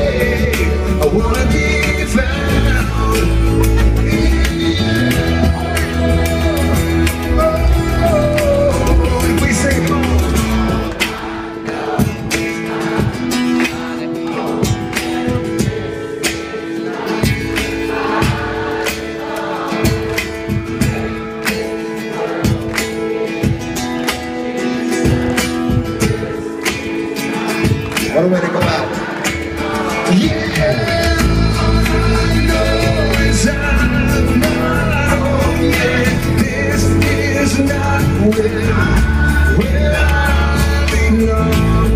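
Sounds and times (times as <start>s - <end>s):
electric and acoustic guitars: 0.0s - 41.9s
steady drum beat: 0.0s - 41.9s.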